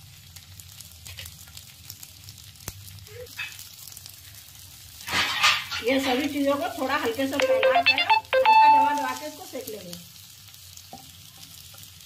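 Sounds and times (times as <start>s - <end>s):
food sizzling on a pan: 0.0s - 12.0s.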